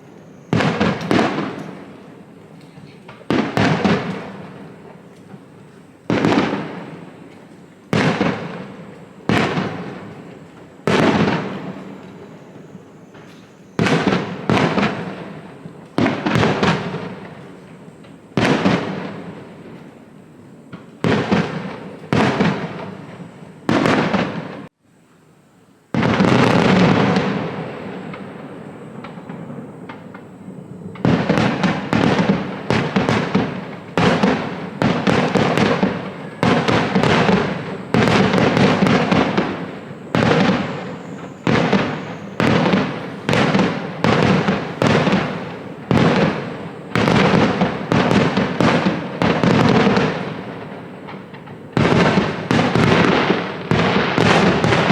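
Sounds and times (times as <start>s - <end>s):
fireworks bangs echoing: 0.0s - 20.0s, 20.6s - 24.7s, 25.9s - 54.9s
fireworks crackling: 0.0s - 24.9s, 25.8s - 54.9s.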